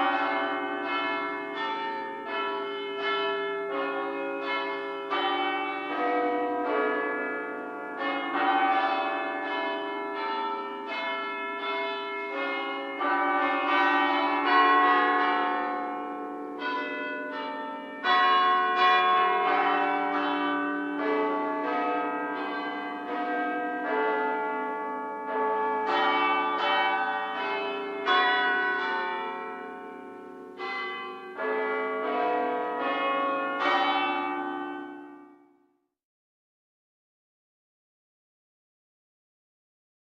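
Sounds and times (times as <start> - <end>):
church bells ringing: 0.0 - 35.6.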